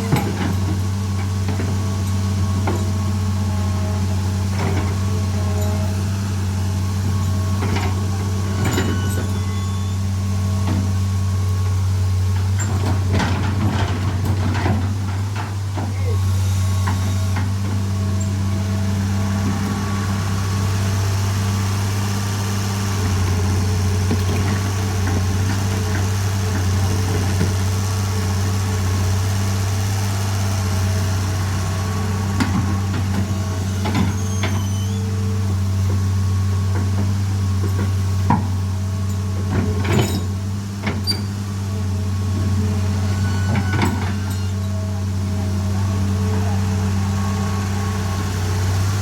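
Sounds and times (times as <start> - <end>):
excavator engine idling: 0.0 - 49.0.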